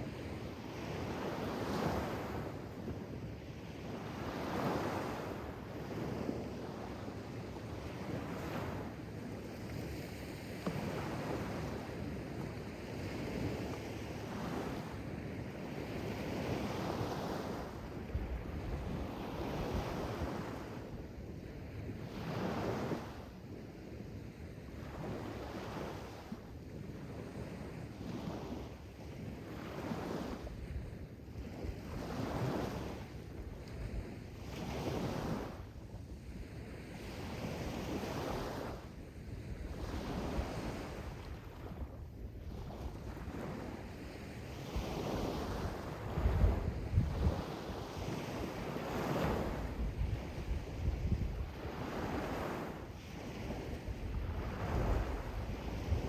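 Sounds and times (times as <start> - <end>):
wind noise on microphone: 0.0 - 24.1, 24.8 - 56.0.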